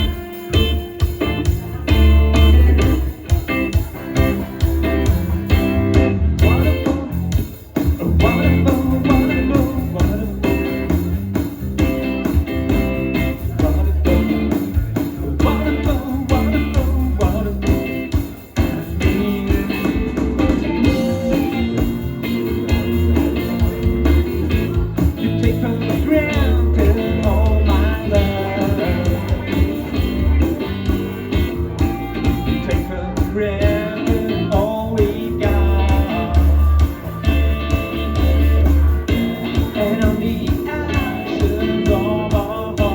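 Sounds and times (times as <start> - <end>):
heavy bass beat: 0.0 - 42.9
live rock band playing: 0.0 - 42.9.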